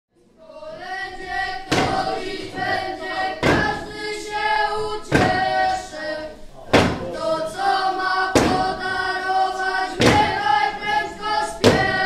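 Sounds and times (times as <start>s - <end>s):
children singing a carol: 0.2s - 12.0s
loud rhythmic thumps: 0.8s - 5.9s, 6.7s - 12.0s.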